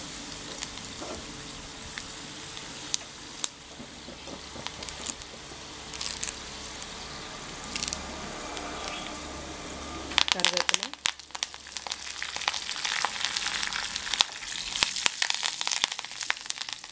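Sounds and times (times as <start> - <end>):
oil popping and crackling: 0.0 - 9.2, 10.0 - 16.9
spices sizzling in hot oil: 0.0 - 16.9.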